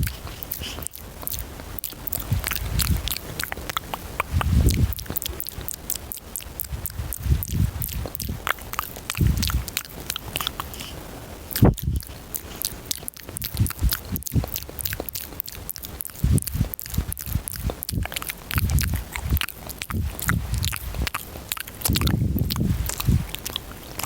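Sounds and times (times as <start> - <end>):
wet mouth clicks and smacks: 0.0 - 24.0.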